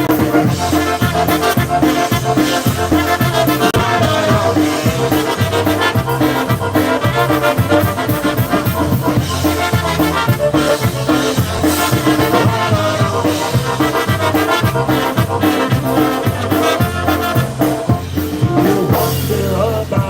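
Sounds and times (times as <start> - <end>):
bass and drum beat: 0.0 - 20.0
polka band playing: 0.0 - 20.0.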